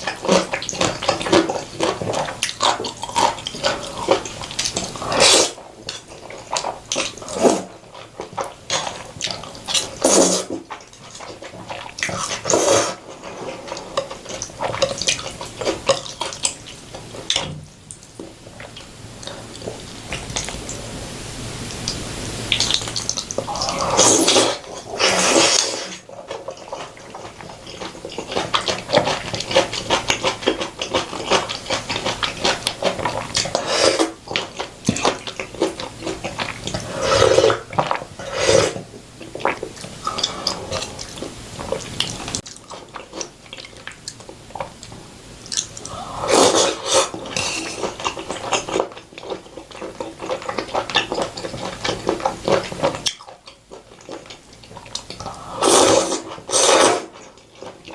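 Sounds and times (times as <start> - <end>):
wet chewing and crunching: 0.0 - 20.8, 21.8 - 57.9
slurps: 0.1 - 16.5, 22.5 - 44.2, 45.5 - 57.9.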